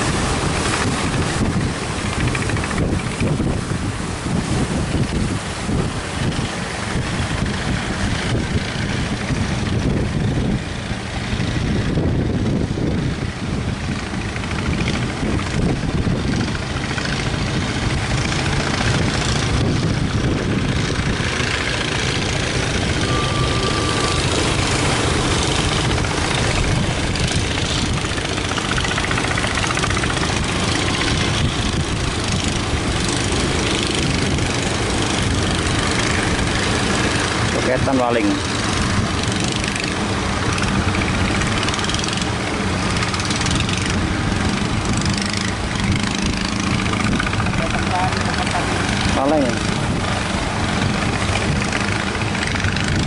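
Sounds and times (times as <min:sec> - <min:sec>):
boat engine running: 0:00.0 - 0:53.0
surf breaking: 0:00.0 - 0:53.0
wind buffeting microphone: 0:00.0 - 0:53.0.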